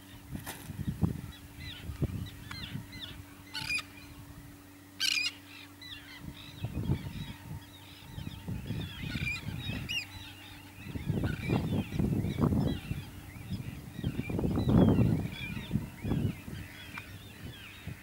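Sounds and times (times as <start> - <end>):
birds calling: 0.0 - 18.0
harsh bird calls: 0.0 - 18.0.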